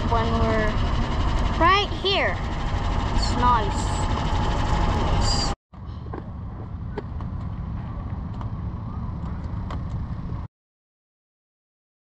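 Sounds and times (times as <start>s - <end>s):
low outdoor rumble: 0.0s - 10.5s.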